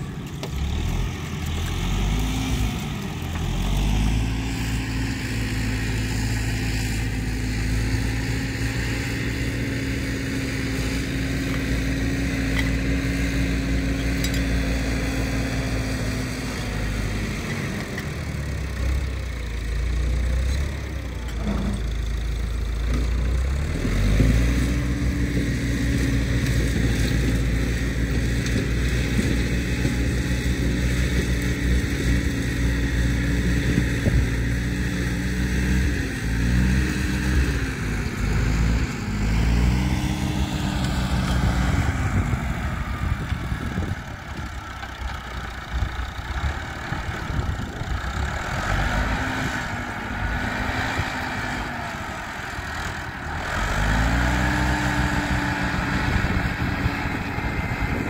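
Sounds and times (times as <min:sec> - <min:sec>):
tractor engine revving: 0:00.0 - 0:58.0.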